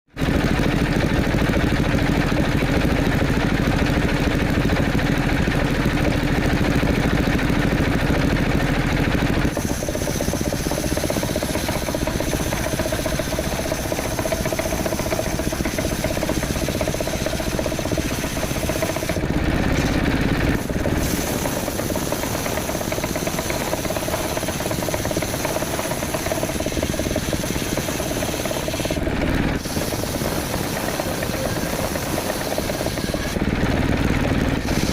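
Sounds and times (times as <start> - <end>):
motor-driven wood saw running: 0.2 - 34.9.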